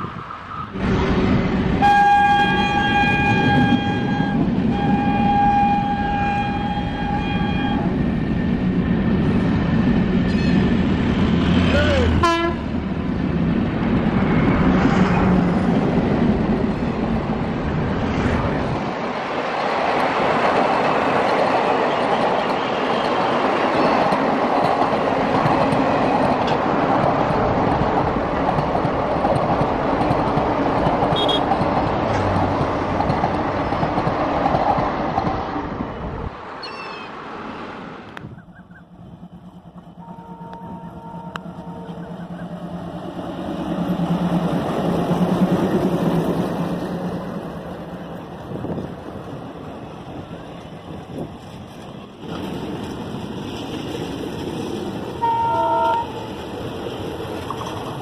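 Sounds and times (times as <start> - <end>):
diesel locomotive engine: 0.0 - 58.0
passenger train passing: 0.0 - 58.0.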